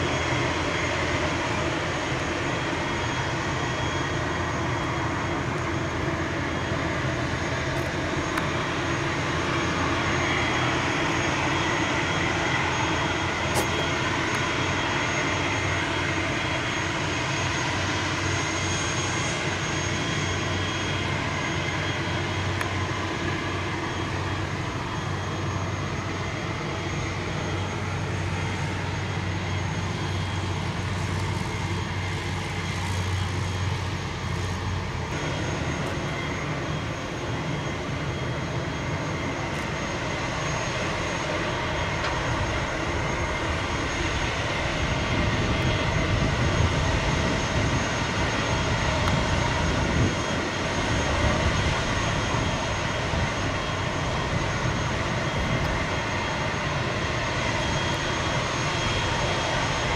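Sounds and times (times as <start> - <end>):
aircraft engine idling: 0.0 - 59.9.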